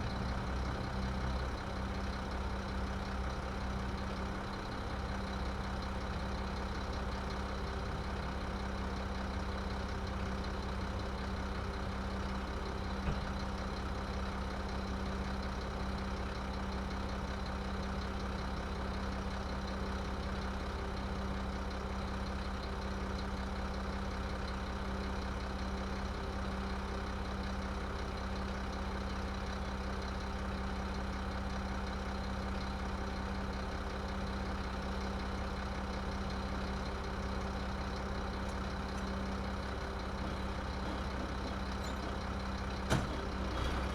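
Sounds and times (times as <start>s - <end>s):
garbage truck engine idling: 0.0s - 43.9s.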